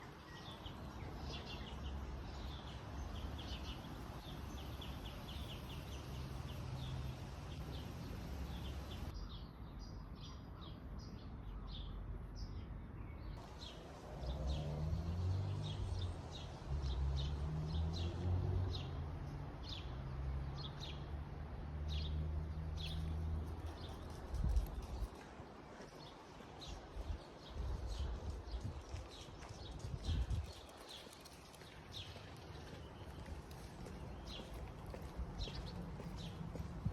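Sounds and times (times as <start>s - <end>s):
small birds chirping: 0.0s - 21.0s, 21.9s - 36.9s.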